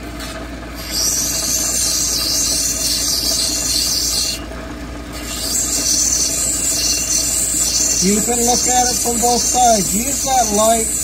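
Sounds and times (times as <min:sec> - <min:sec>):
grinding machine running: 0:00.0 - 0:11.0
hissing grind of stone on wheel: 0:00.2 - 0:04.4, 0:05.1 - 0:11.0.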